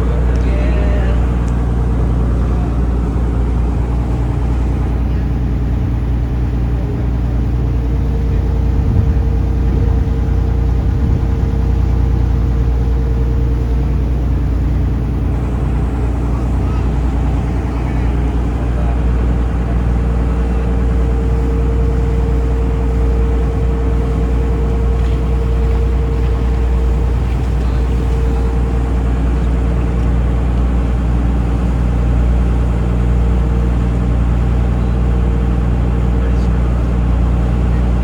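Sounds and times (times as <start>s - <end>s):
boat engine droning: 0.0s - 38.0s
higher engine hum: 0.0s - 38.0s.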